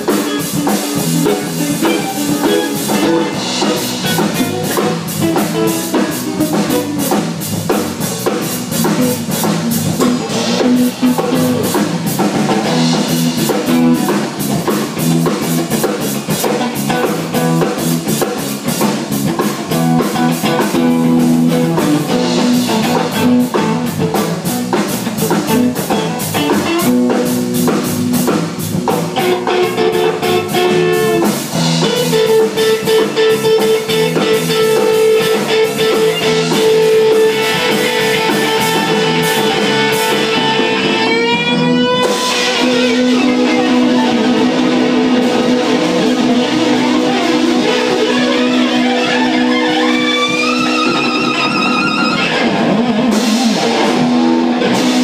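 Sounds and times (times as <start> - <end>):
drum kit beat: 0.0 - 55.0
guitar: 0.0 - 55.0.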